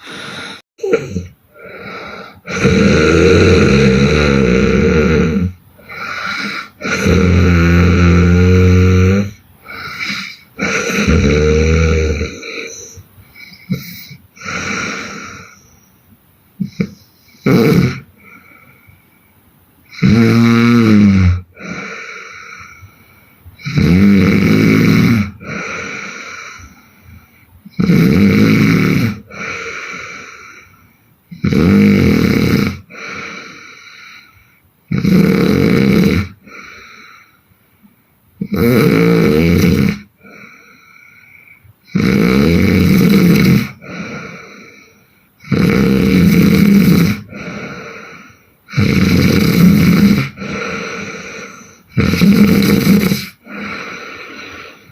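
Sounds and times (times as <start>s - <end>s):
woman snoring: 0.0s - 15.8s, 16.6s - 18.8s, 19.9s - 23.0s, 23.6s - 26.9s, 27.7s - 37.3s, 38.4s - 54.9s.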